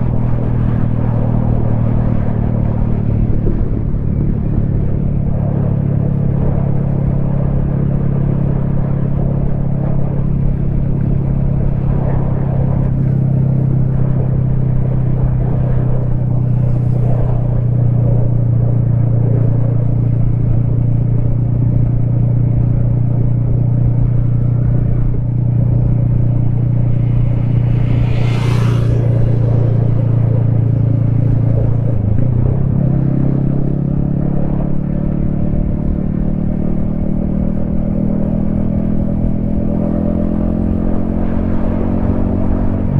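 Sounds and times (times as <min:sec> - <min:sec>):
motorcycle engine cruising: 0:00.0 - 0:42.9.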